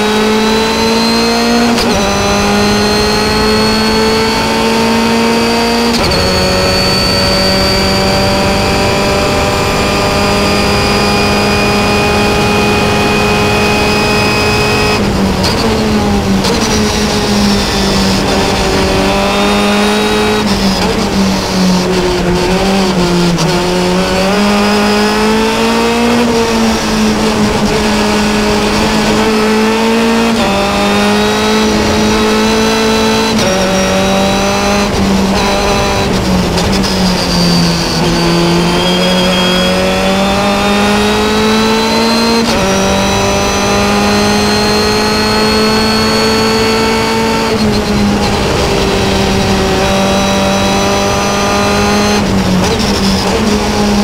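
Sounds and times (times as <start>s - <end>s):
racing car engine: 0.0s - 54.0s.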